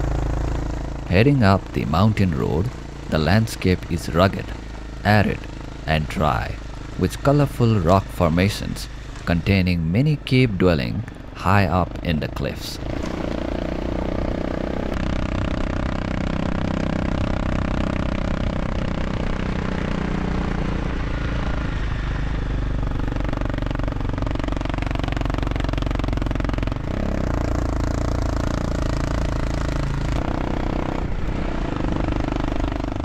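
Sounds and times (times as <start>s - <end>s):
motorcycle engine on gravel road: 0.0s - 33.0s.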